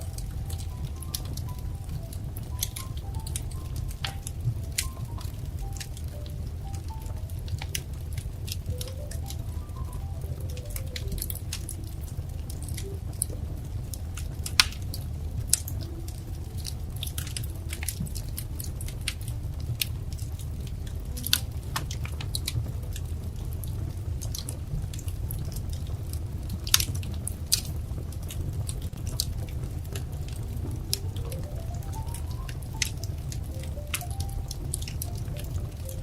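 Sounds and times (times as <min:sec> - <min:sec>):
fire popping and snapping: 0:00.0 - 0:36.0
wood fire crackling: 0:00.0 - 0:36.0.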